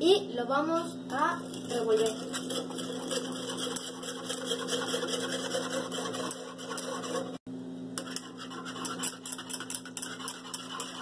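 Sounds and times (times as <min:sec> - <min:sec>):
whisk clicking against a saucepan: 0:01.5 - 0:07.4, 0:08.0 - 0:11.0.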